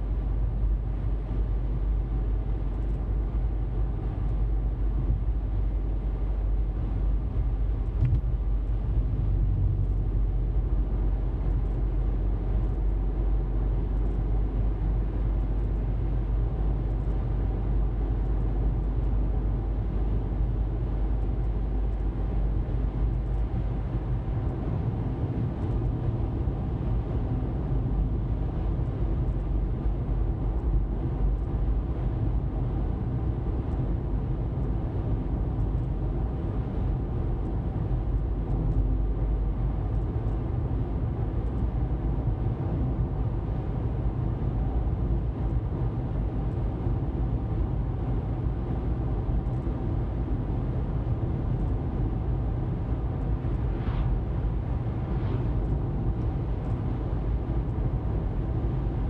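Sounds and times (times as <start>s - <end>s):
faint engine hum: 0.0s - 59.0s.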